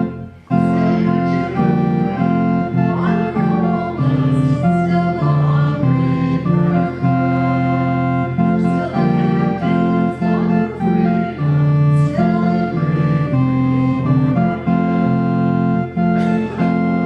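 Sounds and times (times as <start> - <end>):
organ playing hymn chords: 0.0 - 17.0.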